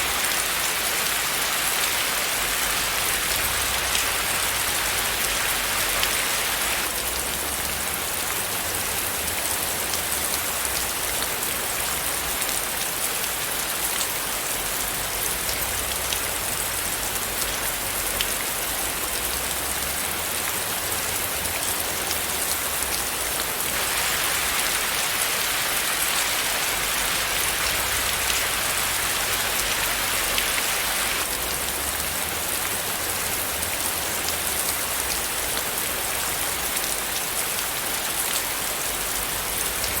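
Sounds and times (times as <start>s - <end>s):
rain pattering on surface: 0.0s - 40.0s.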